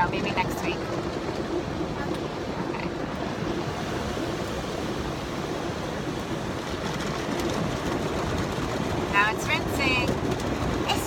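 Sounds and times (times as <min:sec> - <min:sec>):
car wash rushing noise: 0:00.0 - 0:11.0.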